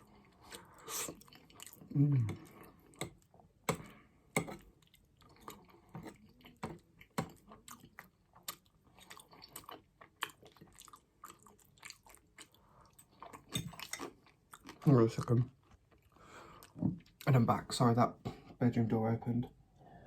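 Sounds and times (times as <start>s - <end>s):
close chewing mouth sounds: 0.0s - 17.3s.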